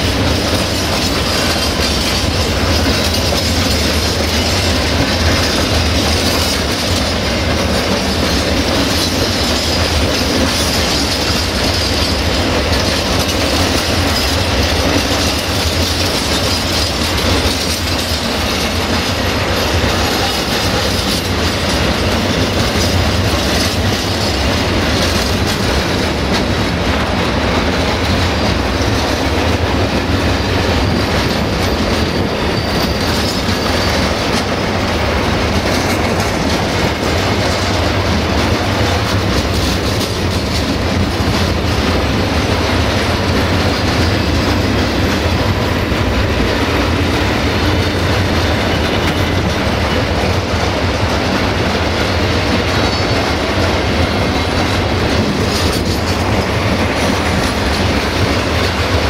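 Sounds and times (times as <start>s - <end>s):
freight wagons rumbling on rails: 0.0s - 59.0s.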